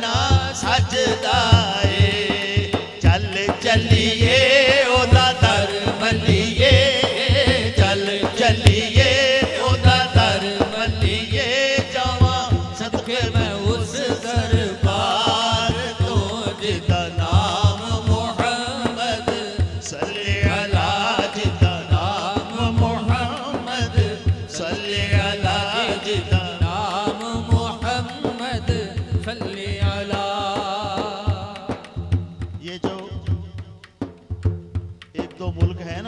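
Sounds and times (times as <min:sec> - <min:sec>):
men singing: 0:00.0 - 0:33.7.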